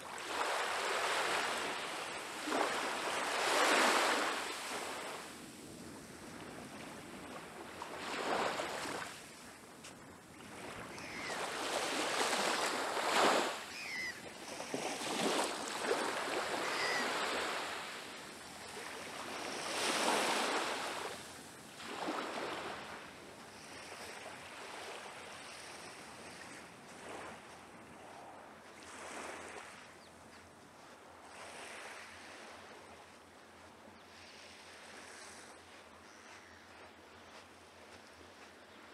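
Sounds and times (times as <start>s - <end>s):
small waves lapping on sand: 0.0s - 38.9s.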